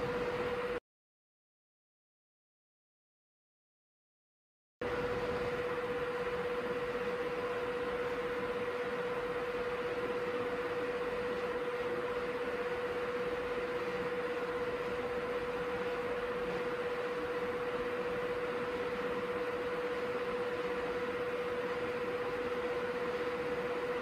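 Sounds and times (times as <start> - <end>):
computer fans whirring: 0.0 - 0.8, 4.8 - 24.0
mid-pitched whine: 0.0 - 0.8, 4.8 - 24.0.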